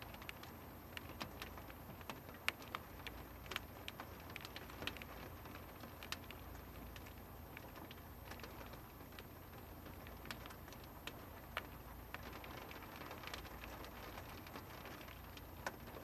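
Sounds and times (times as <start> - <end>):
light rain: 0.0 - 16.0.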